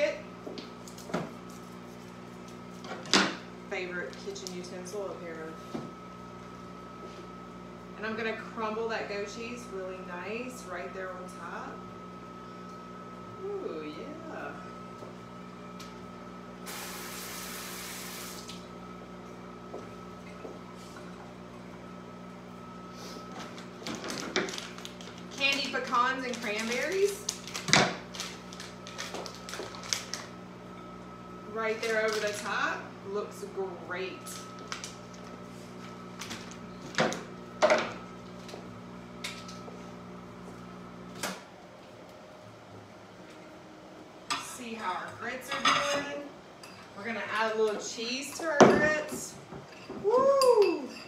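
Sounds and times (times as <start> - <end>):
microwave oven humming: 0.0 - 51.0.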